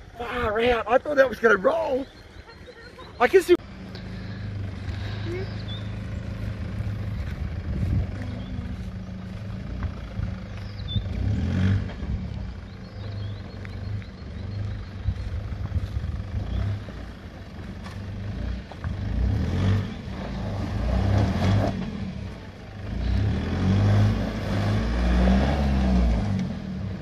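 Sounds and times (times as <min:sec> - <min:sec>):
vehicle engine revving: 0:01.1 - 0:27.0.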